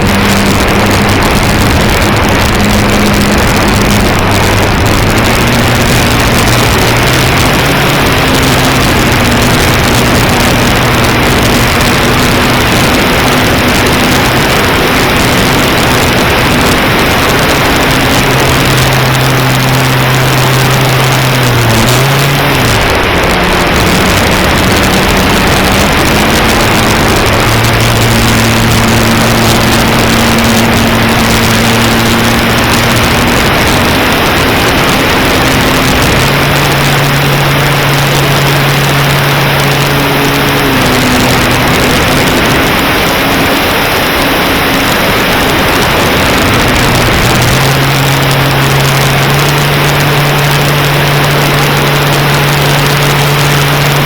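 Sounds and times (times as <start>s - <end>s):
aircraft engine and propeller droning: 0.0s - 54.0s
heavy wind rush: 0.0s - 54.0s.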